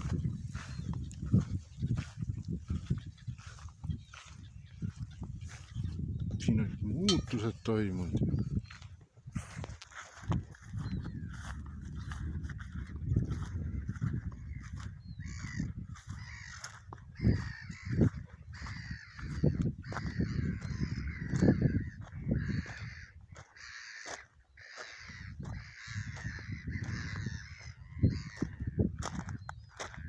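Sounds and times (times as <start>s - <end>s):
wind buffeting microphone: 0.0s - 23.6s, 25.0s - 30.0s.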